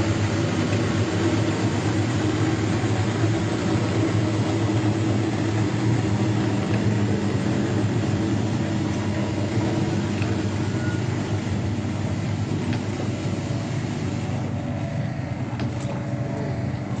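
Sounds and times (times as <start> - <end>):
machine motor hum: 0.0 - 17.0.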